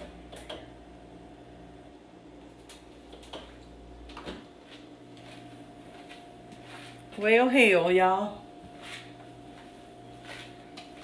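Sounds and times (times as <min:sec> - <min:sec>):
steady low room hum: 0:00.0 - 0:11.0.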